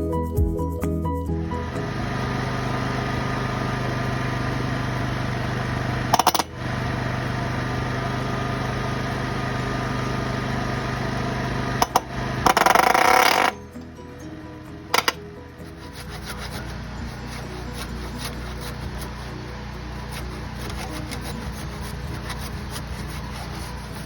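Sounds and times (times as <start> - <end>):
machine humming: 1.4 - 24.0.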